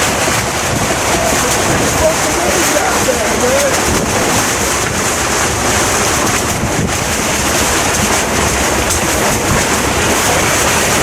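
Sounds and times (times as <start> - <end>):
choppy waves: 0.0 - 11.0
heavy rain hiss: 0.0 - 11.0
wind buffeting microphone: 0.0 - 11.0.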